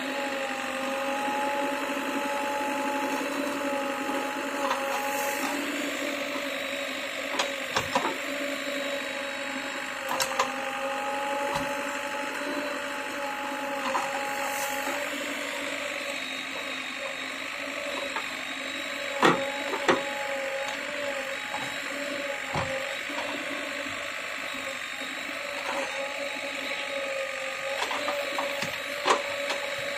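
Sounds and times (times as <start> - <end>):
backhoe loader engine droning: 0.0 - 29.9.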